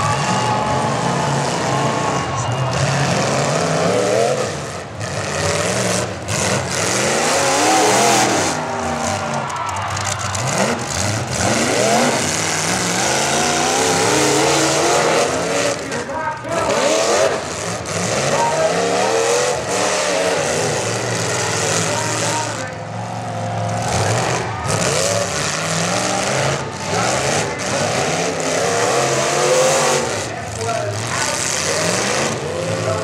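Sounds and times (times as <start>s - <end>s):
car engines revving hard: 0.0s - 33.0s.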